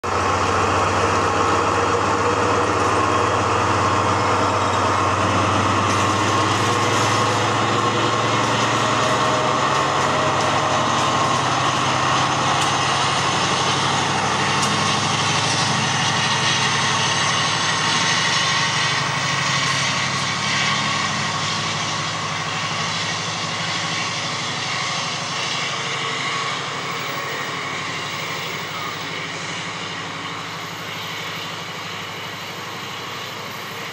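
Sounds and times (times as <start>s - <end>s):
diesel locomotive engine at full power: 0.0s - 33.9s
tank wagons rolling past: 0.0s - 33.9s.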